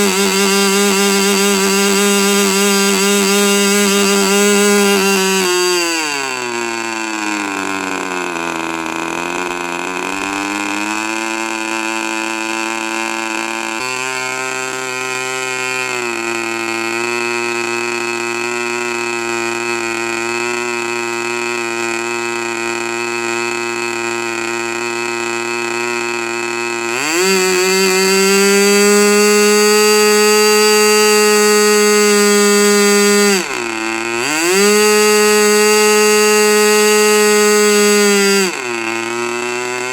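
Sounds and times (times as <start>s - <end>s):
model glow engine running: 0.0s - 39.9s.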